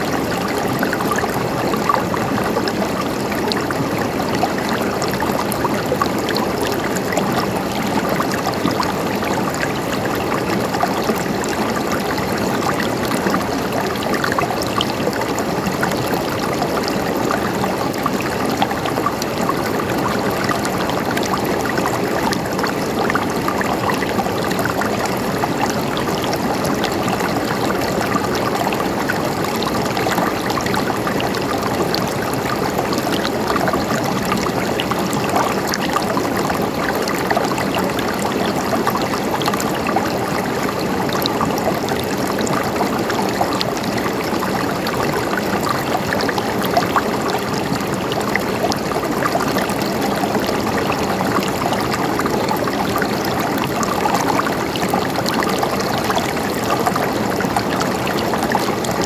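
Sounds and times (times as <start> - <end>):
stream babbling over rocks: 0.0 - 59.0.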